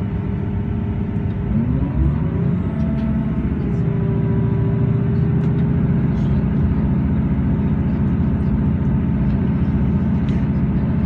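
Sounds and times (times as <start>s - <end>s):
train engine drone: 0.0s - 11.0s.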